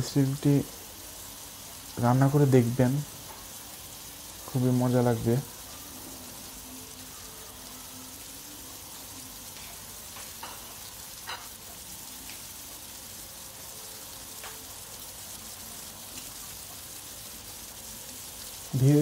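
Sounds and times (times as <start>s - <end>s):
prawns sizzling in oil: 0.0s - 19.0s.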